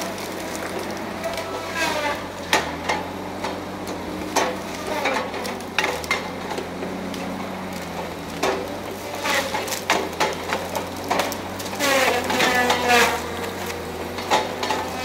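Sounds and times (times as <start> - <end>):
branches cracking and snapping: 0.0 - 15.0
diesel engine running: 0.0 - 15.0.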